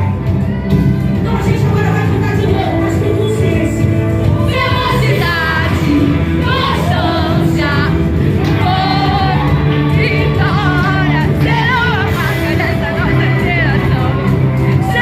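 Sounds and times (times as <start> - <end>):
band accompaniment: 0.0 - 15.0
voices singing gospel song: 1.2 - 15.0.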